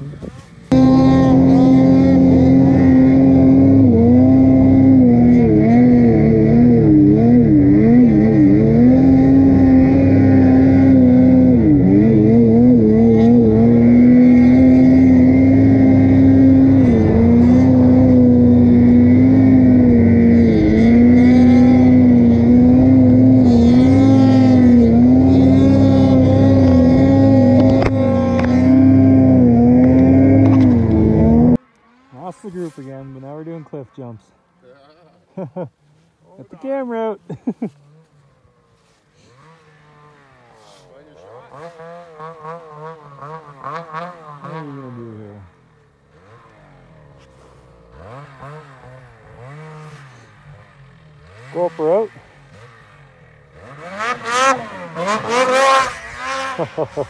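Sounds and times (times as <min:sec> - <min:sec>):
snowmobile engine revving high: 0:00.0 - 0:34.2, 0:36.4 - 0:57.0.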